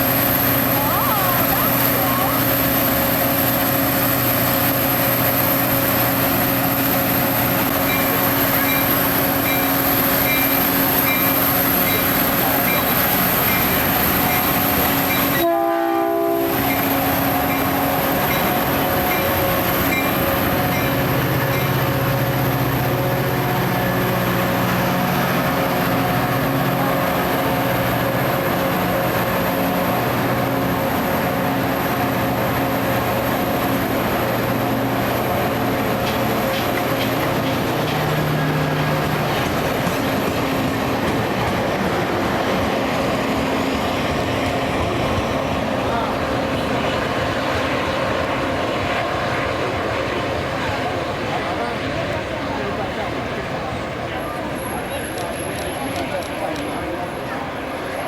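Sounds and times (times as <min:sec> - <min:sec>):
train rumble on rails: 0:00.0 - 0:58.0.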